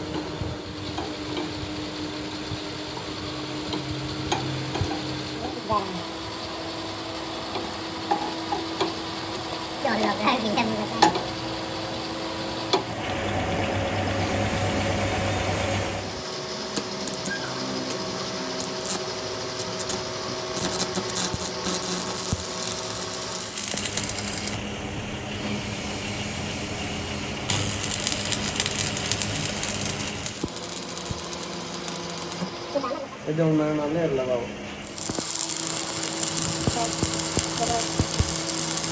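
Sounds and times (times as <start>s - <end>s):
machinery motor humming: 0.0s - 38.9s.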